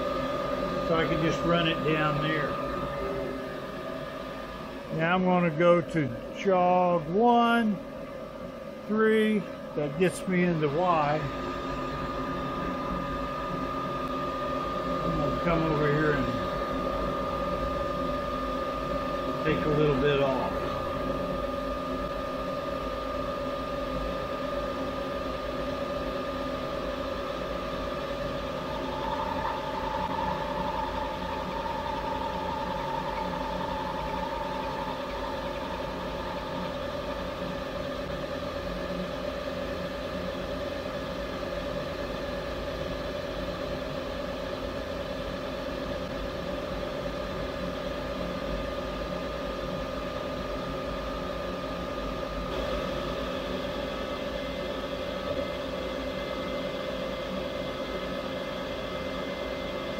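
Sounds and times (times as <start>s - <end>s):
high whine: 0.0s - 59.9s
milling machine spindle hum: 0.0s - 59.9s.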